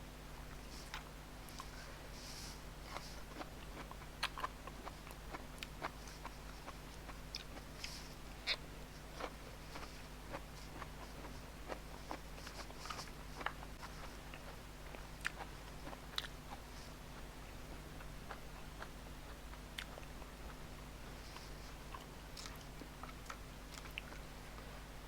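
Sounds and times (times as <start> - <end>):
person chewing: 2.8 - 20.6, 21.2 - 24.3.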